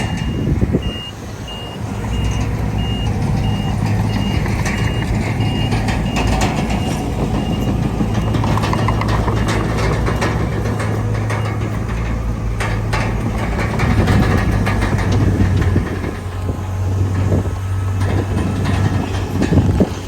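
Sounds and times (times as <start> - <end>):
bulldozer diesel engine running: 0.0 - 20.0
steel tracks clanking: 0.0 - 20.0.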